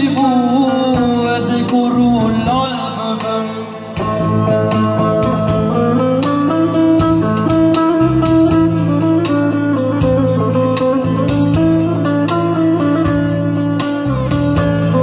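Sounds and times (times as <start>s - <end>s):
plucked string instrument melody: 0.0s - 15.0s
steady drum beat: 0.0s - 15.0s.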